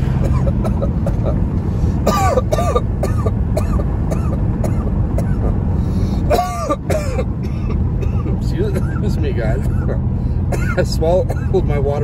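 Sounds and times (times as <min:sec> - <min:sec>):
car road noise: 0:00.0 - 0:12.0
man coughing: 0:00.2 - 0:01.4, 0:02.0 - 0:05.4, 0:06.3 - 0:11.6.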